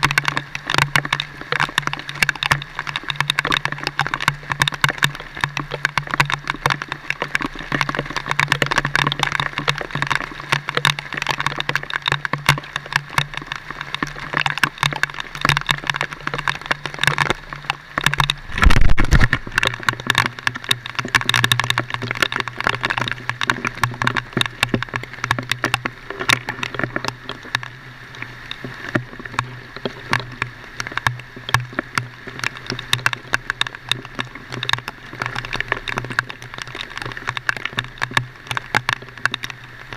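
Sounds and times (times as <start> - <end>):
clicking and rattling: 0.0 - 39.9.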